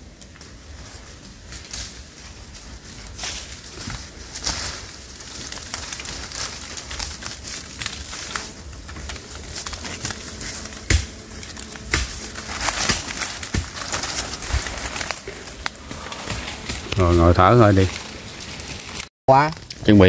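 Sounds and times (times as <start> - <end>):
crackles: 0.0 - 20.0
rustling and scraping against bark: 0.0 - 20.0.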